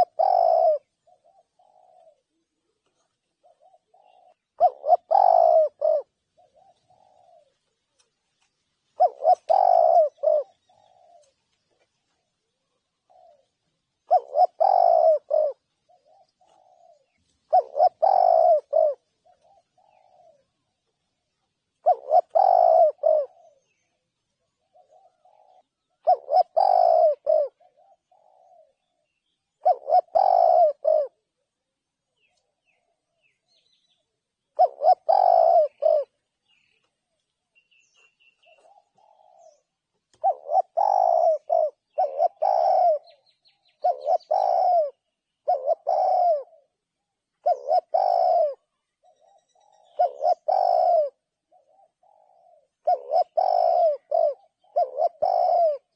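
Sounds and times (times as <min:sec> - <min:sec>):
dove cooing: 0:00.0 - 0:08.2, 0:08.9 - 0:55.9.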